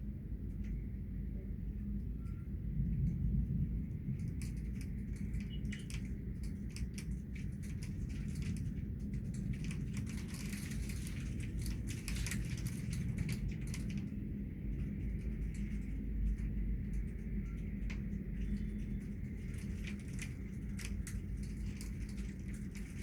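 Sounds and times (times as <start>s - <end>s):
steady low rumble: 0.0s - 23.0s
rain drops ticking on hard surface: 2.0s - 23.0s.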